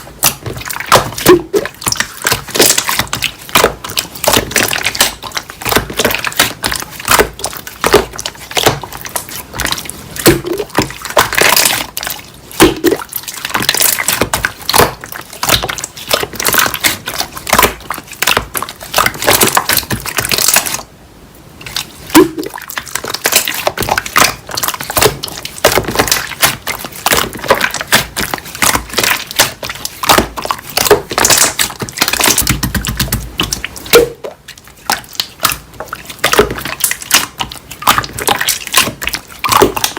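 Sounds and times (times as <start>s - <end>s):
slime squelching by hand: 0.0s - 20.9s, 21.6s - 39.9s.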